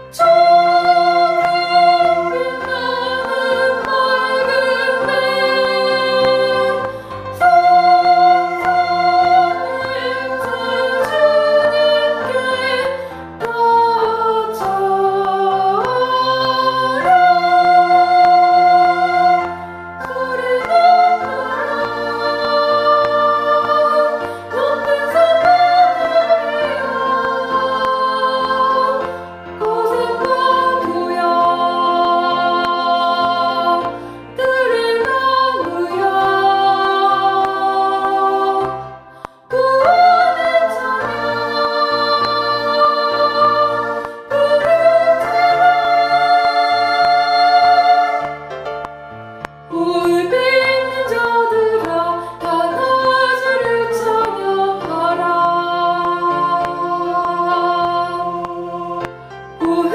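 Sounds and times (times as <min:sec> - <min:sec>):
choir singing in harmony: 0:00.0 - 0:59.9
piano accompaniment: 0:00.0 - 0:59.9.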